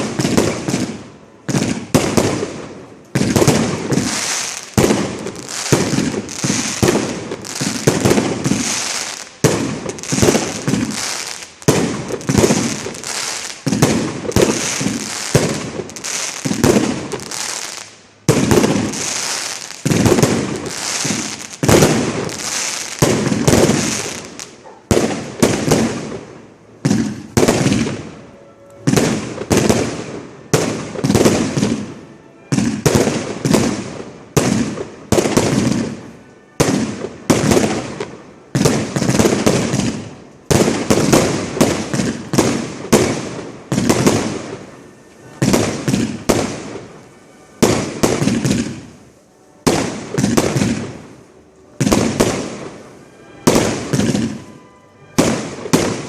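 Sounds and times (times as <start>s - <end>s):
fireworks launching and bursting: 0.0s - 28.2s, 28.8s - 56.0s.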